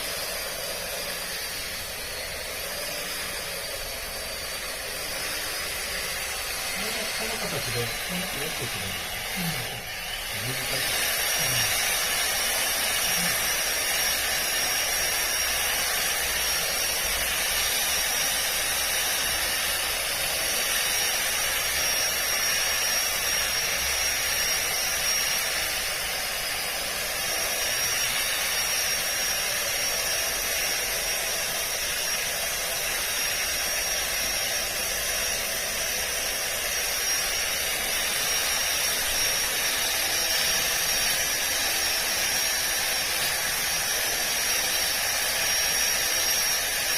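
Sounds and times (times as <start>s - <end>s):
cordless trimmer motor whine: 0.0s - 46.9s.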